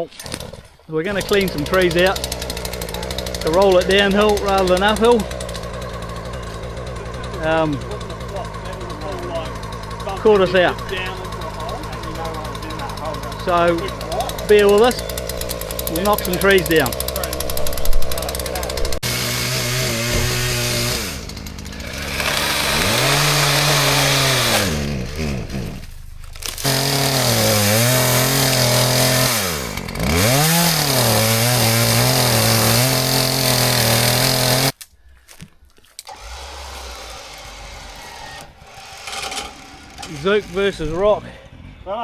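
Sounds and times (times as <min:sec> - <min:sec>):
chainsaw cutting wood: 0:00.0 - 0:41.4.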